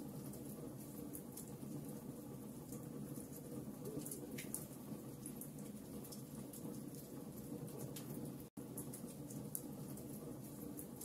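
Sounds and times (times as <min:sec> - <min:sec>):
logs crackling and popping: 0:00.1 - 0:11.0.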